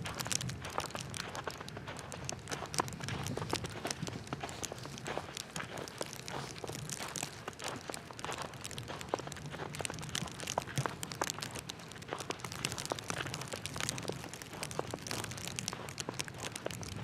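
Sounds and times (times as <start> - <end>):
footsteps crunching through snow: 0.0 - 17.0.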